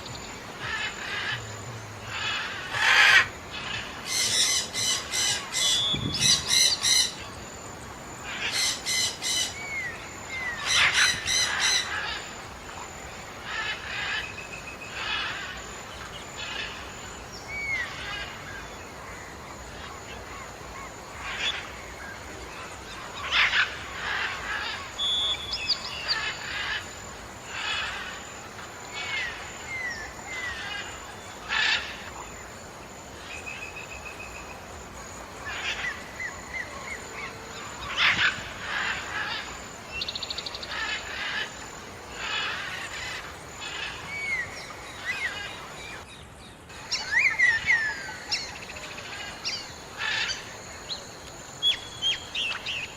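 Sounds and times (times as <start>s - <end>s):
birds calling: 0.0s - 52.9s.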